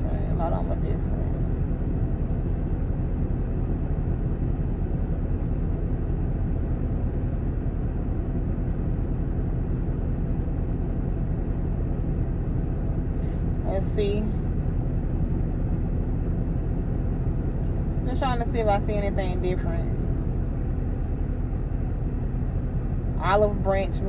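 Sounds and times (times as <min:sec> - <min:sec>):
diesel truck engine rumbling: 0:00.0 - 0:24.0.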